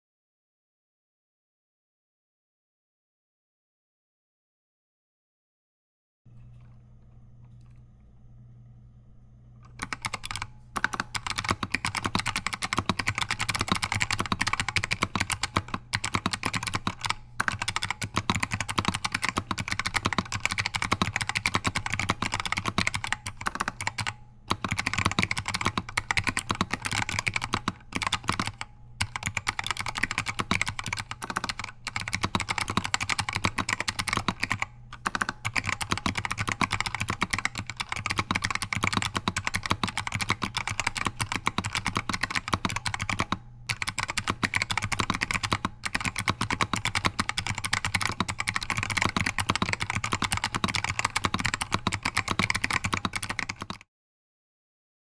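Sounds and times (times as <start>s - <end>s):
mechanical keyboard clacking: 9.6s - 53.8s.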